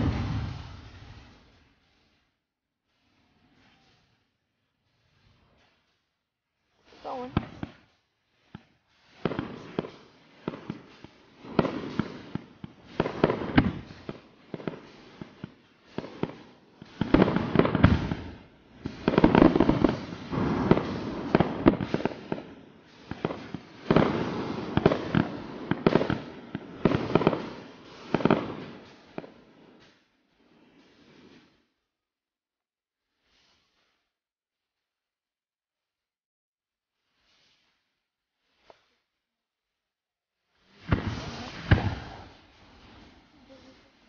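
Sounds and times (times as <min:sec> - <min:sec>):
fireworks bangs and pops: 0:00.0 - 0:32.0, 0:33.0 - 0:34.9, 0:36.9 - 0:44.0.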